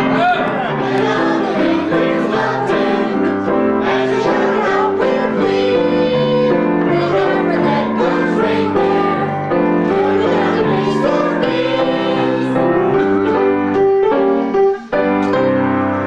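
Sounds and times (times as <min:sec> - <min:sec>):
piano accompaniment: 0:00.0 - 0:16.0
group singing a carol: 0:00.6 - 0:13.5.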